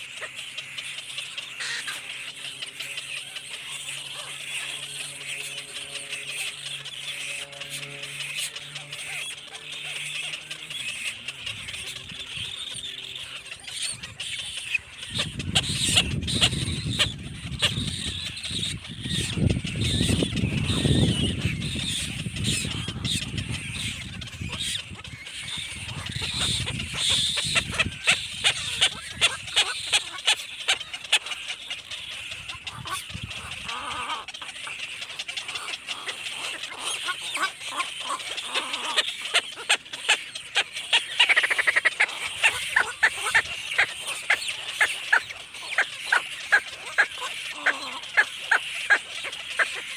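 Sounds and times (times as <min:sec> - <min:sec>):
nestling birds squealing and cheeping: 0:00.0 - 0:49.9.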